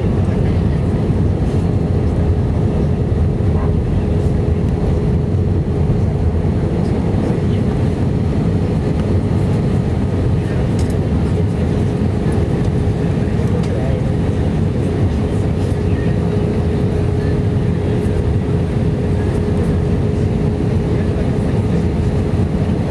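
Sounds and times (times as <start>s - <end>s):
jet engines rumbling in cabin: 0.0s - 22.9s.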